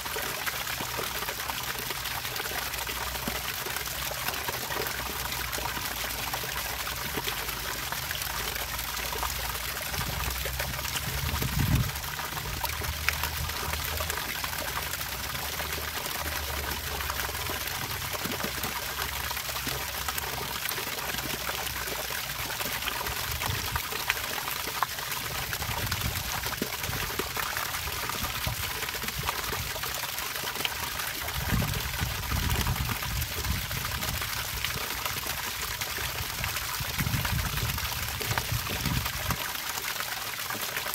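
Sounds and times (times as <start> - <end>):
water trickling and pouring: 0.0 - 40.9.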